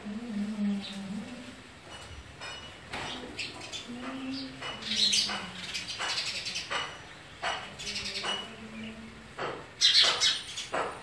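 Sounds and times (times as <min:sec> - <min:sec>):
sparrows chirping: 0:00.3 - 0:11.0.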